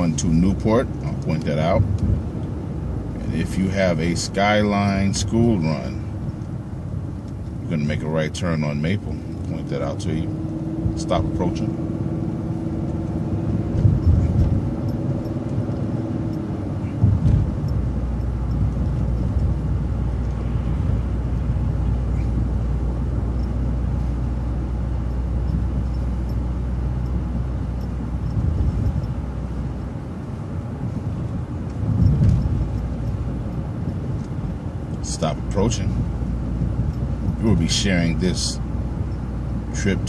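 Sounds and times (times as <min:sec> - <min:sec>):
bus engine whine: 0:00.0 - 0:40.0
low bus hum: 0:00.0 - 0:40.0.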